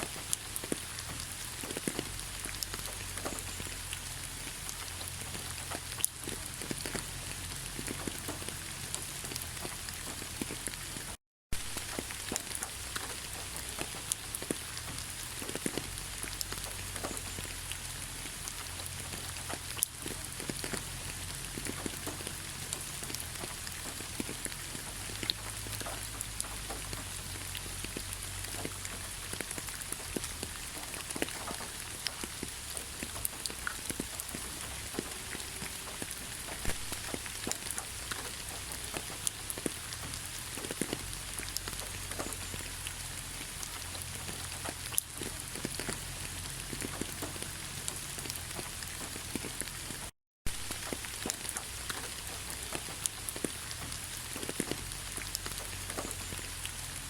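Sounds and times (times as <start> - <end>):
heavy rain: 0.0 - 57.0
raindrops ticking on surfaces: 0.0 - 57.0.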